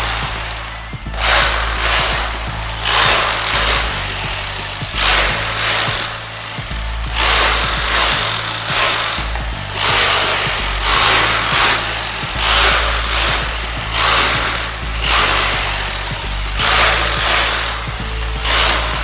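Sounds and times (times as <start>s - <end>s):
rotary hammer chiselling masonry: 0.0s - 19.0s.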